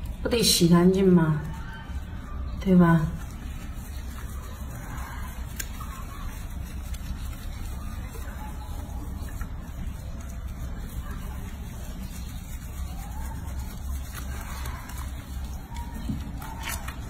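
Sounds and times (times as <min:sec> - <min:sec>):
hands scrubbing wet fur: 0:00.0 - 0:17.0.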